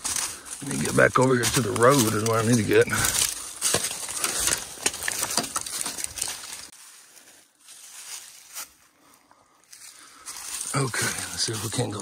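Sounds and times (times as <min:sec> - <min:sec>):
footsteps crunching through brush: 0:00.0 - 0:12.0.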